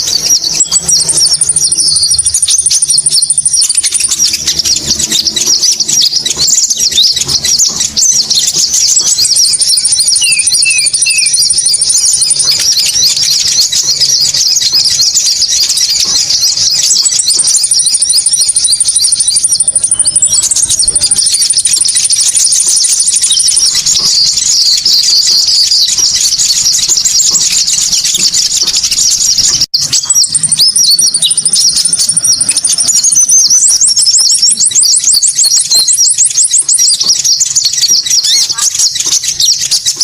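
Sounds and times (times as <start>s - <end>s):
birds twittering: 0.0s - 40.0s
high thin bird trill: 0.0s - 40.0s.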